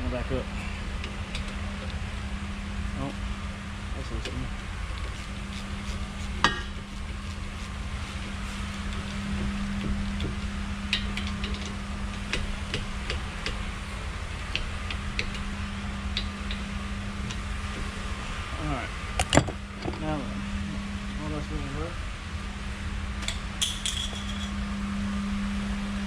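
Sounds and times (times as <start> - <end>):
workshop background hum: 0.0 - 26.0.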